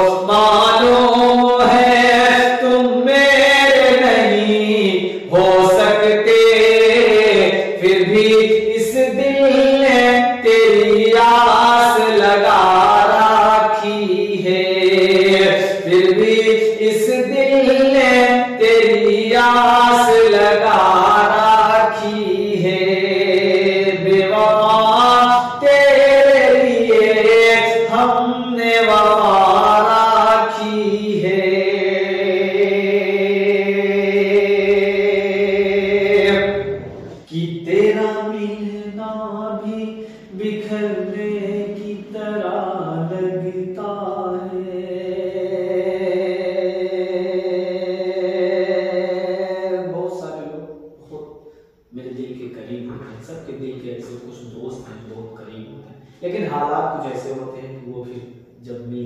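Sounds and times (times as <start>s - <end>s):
man singing without words: 0.0s - 59.0s.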